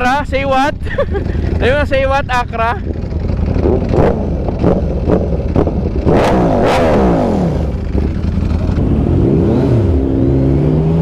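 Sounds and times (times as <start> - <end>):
motorcycle engines revving: 0.8 - 11.0.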